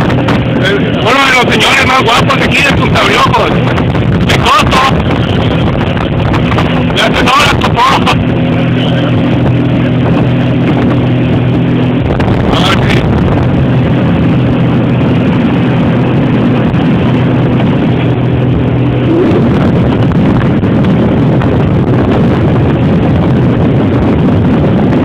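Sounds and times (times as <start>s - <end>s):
motorboat engine running: 0.0s - 25.0s
wind noise on microphone: 0.0s - 25.0s.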